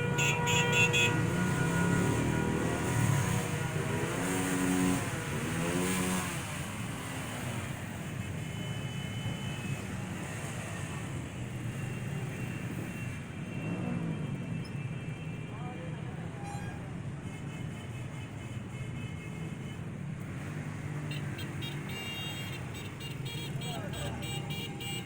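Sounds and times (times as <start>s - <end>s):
vehicle engines revving: 0.0s - 17.4s, 18.6s - 25.0s
rumble of engines and traffic: 0.0s - 25.0s.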